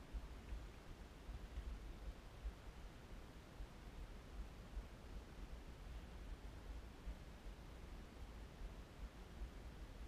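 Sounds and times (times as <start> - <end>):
soft hiss: 0.0 - 10.0.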